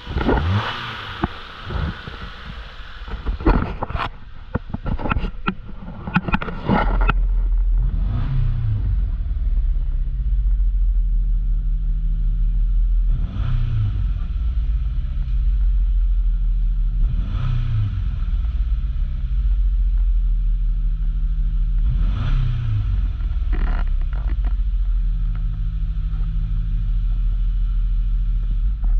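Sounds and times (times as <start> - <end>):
engine revving: 0.0 - 5.5, 6.3 - 20.0, 20.7 - 28.9
car engine starting and idling: 0.0 - 28.9.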